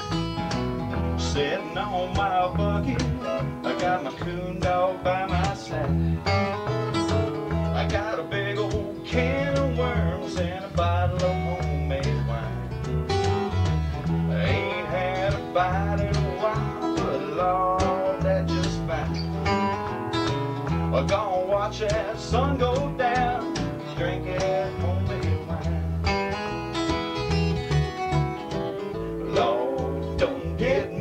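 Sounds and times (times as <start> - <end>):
acoustic guitars picking melody: 0.0 - 31.0
bass guitar line: 0.0 - 31.0.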